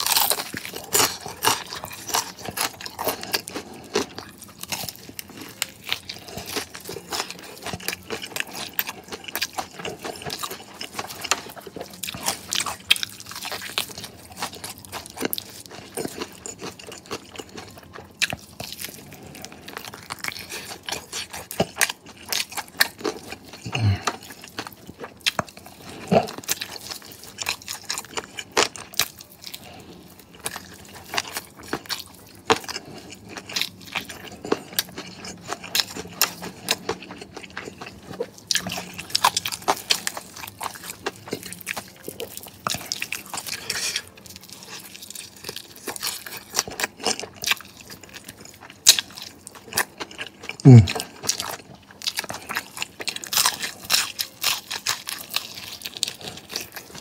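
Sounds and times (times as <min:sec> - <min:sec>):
chewing crispy chicken crunches: 0:00.0 - 0:57.0.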